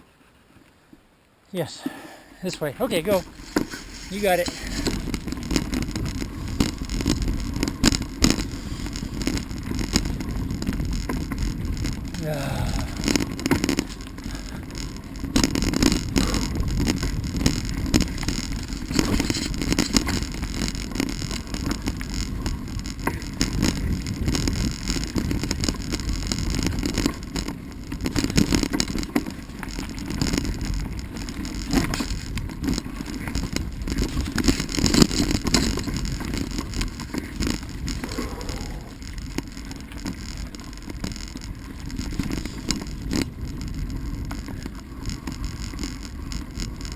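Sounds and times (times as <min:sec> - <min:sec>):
bike tyres on dirt trail: 0:00.0 - 0:46.9
wind rumble on microphone: 0:02.8 - 0:46.9
bike rattling and knocking: 0:03.0 - 0:46.9.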